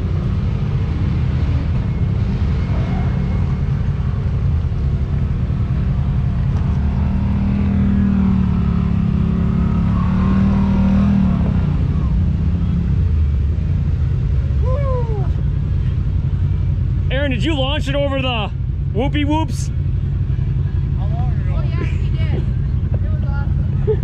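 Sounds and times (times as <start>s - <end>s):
utv engines running under load: 0.0s - 24.0s.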